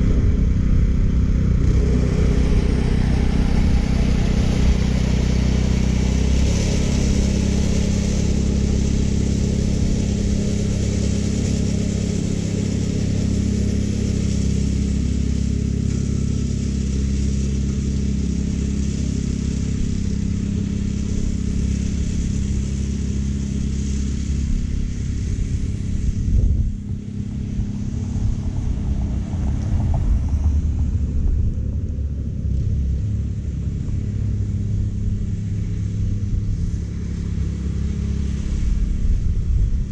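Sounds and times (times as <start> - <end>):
mower reel whirring: 0.0 - 39.9
reel mower engine hum: 0.0 - 39.9.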